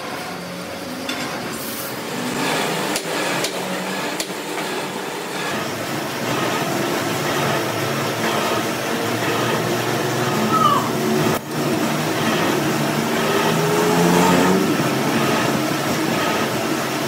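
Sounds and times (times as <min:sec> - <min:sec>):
metalworking machines droning: 0:00.0 - 0:17.0.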